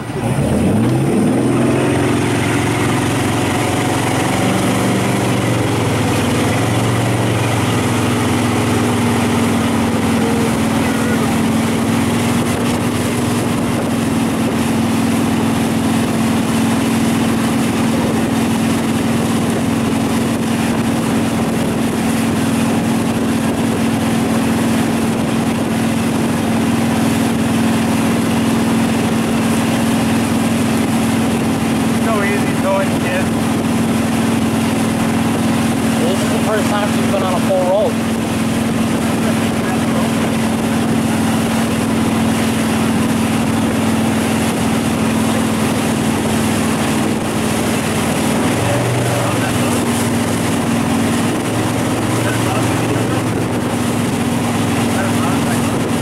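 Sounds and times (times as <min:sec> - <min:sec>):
boat wake and spray rushing: 0:00.0 - 0:56.0
motorboat engine: 0:00.0 - 0:56.0.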